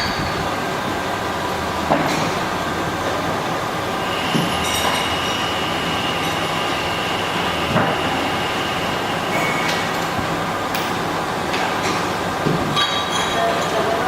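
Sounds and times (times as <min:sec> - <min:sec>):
machine running: 0:00.0 - 0:11.8.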